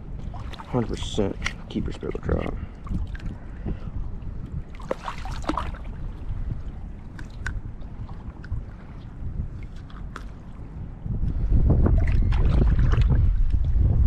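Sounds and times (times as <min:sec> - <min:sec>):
water lapping and sloshing: 0:00.0 - 0:14.0
wind rumbling on microphone: 0:00.0 - 0:14.0.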